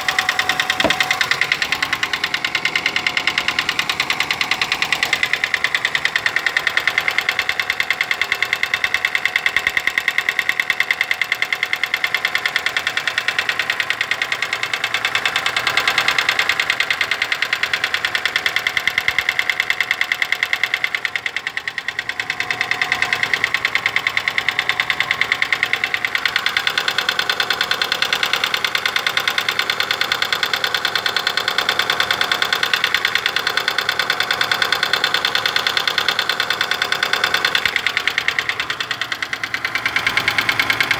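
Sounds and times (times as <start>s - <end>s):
car engine running: 0.0s - 40.9s
rapid valve lifter ticking: 0.0s - 40.9s.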